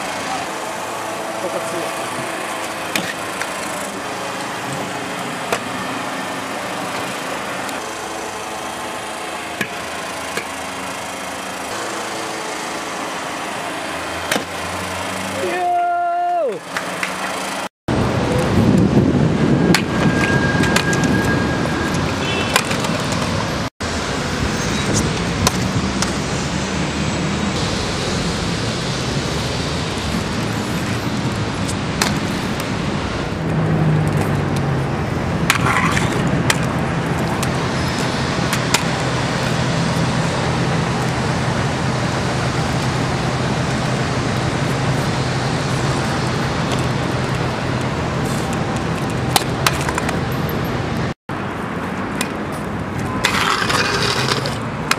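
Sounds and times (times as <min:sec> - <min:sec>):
scooter wheels rolling on stone: 0:00.0 - 0:15.7, 0:16.6 - 0:23.6, 0:29.2 - 0:54.9
city traffic noise: 0:00.0 - 0:54.9.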